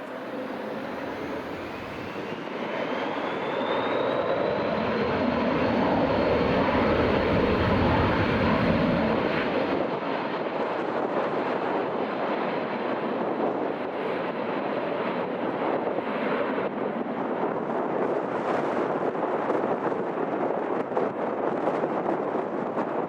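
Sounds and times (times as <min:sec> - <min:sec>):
airliner engines passing: 0:00.0 - 0:23.0.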